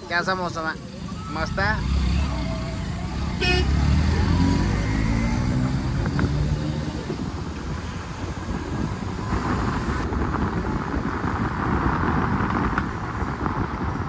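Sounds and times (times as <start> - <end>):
car road and engine noise: 0.0 - 14.0
wind buffeting microphone: 0.1 - 14.0.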